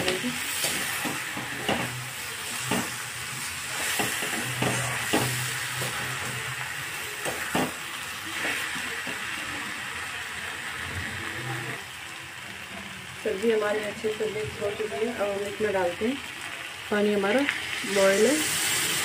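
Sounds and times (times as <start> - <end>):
food sizzling in a metal pan: 0.0 - 19.0.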